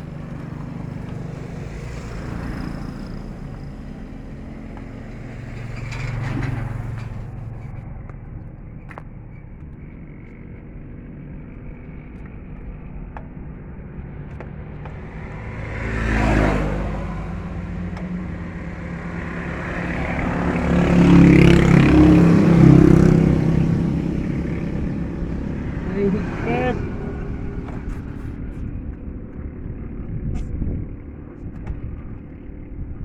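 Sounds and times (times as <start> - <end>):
engine humming: 0.0 - 33.0
motor vehicles passing: 0.0 - 33.0.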